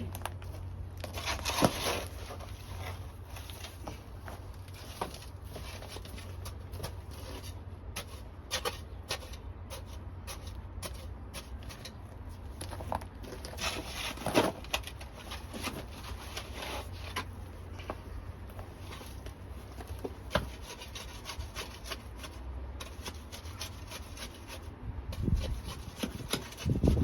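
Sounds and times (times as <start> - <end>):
light knocks taps and scrapes: 0.0 - 27.0.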